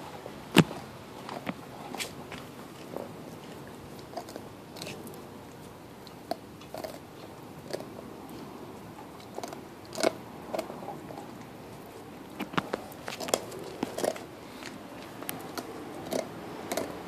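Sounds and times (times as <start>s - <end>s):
puppy chewing bone: 0.5s - 17.0s.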